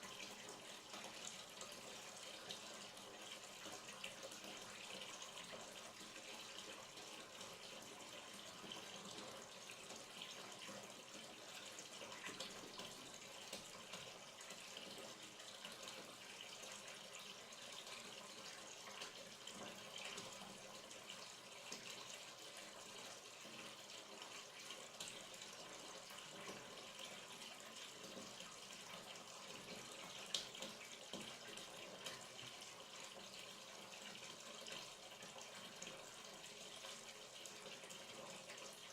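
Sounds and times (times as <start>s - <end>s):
water running into a bathtub: 0.0s - 38.9s.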